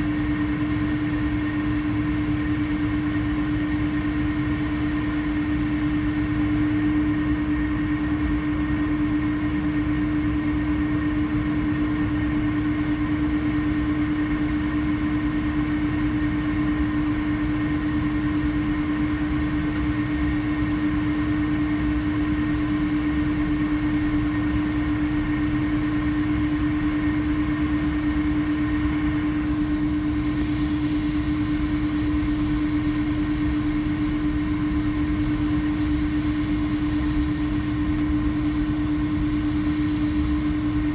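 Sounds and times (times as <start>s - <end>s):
jet engines idling: 0.0s - 40.9s.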